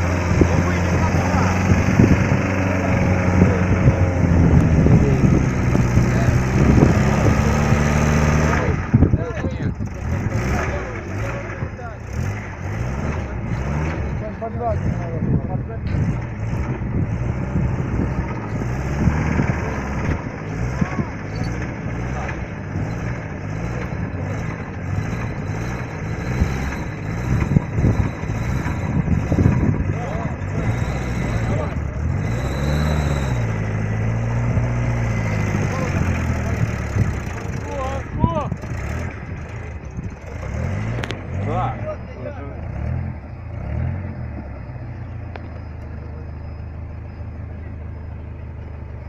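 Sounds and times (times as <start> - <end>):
vehicle engine running under load: 0.0 - 49.0.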